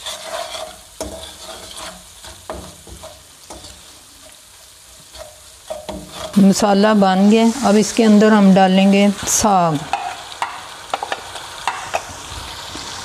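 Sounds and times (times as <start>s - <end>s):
spices sizzling in ghee: 0.0s - 13.0s.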